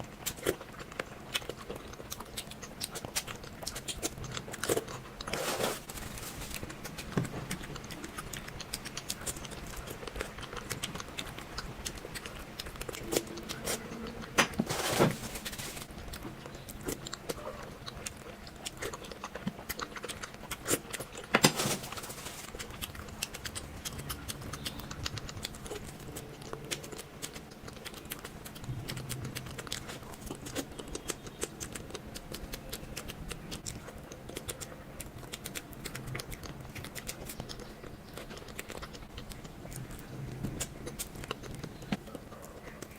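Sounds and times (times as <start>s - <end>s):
wet mouth clicks and chewing: 0.0s - 5.4s, 6.0s - 14.6s, 15.8s - 21.4s, 22.4s - 42.9s.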